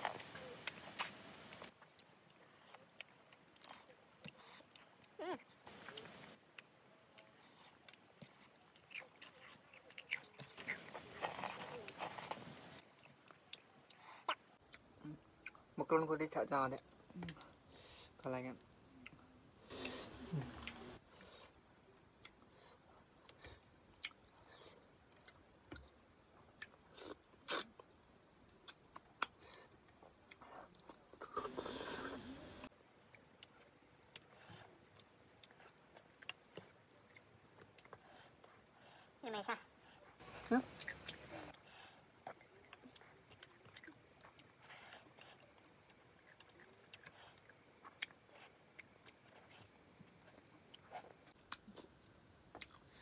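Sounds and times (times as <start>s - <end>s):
wet chewing and eating by hand: 0.0s - 16.0s, 18.9s - 39.0s, 40.1s - 53.0s.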